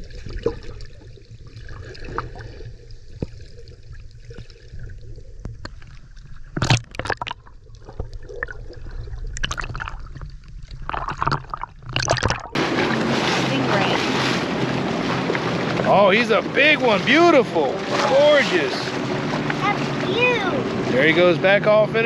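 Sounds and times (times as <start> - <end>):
underwater sloshing and gurgling: 0.0 - 22.0
water splashing: 0.0 - 22.0.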